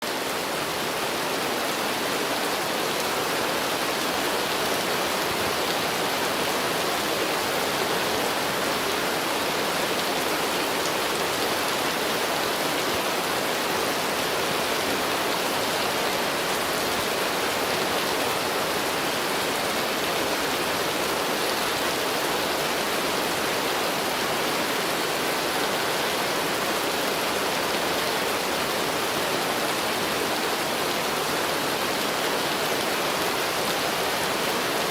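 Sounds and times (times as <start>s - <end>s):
steady rainfall: 0.0s - 34.9s.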